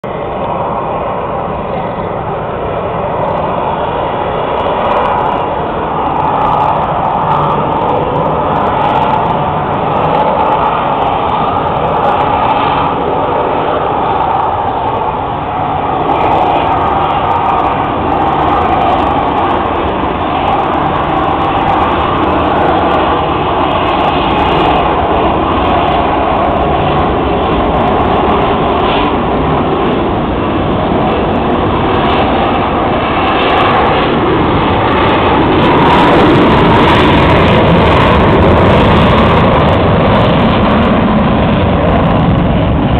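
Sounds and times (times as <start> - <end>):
fighter jet rushing overhead: 0.0 - 42.9.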